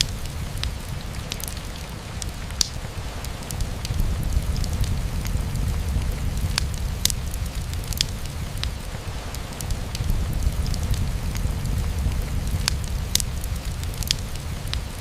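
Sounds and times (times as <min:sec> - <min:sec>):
crackling wood fire: 0:00.0 - 0:15.0
rain on a window: 0:00.0 - 0:15.0.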